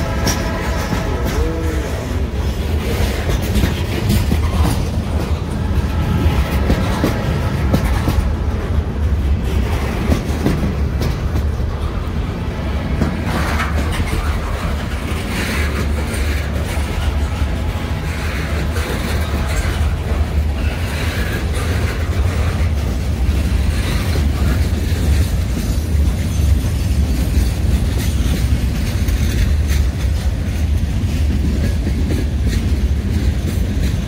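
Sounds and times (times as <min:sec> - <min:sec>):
train wheels rumbling on rail: 0:00.0 - 0:34.0
wheels clicking over rail joints: 0:00.0 - 0:34.0.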